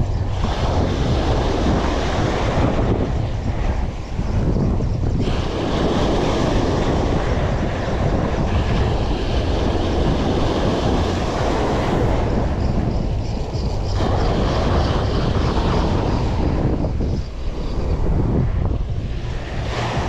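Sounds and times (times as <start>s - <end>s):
sea water rushing around boat: 0.0s - 20.0s
wind buffeting microphone: 0.0s - 20.0s.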